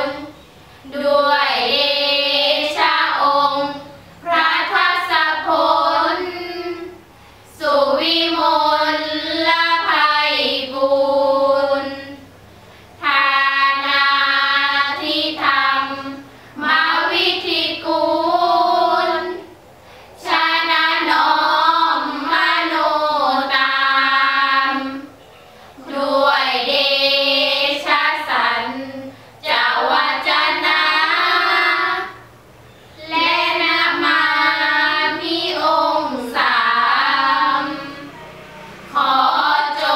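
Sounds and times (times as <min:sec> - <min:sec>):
girls chanting in unison: 0:00.0 - 0:12.3, 0:13.0 - 0:19.6, 0:20.2 - 0:25.2, 0:25.8 - 0:32.4, 0:33.0 - 0:39.9.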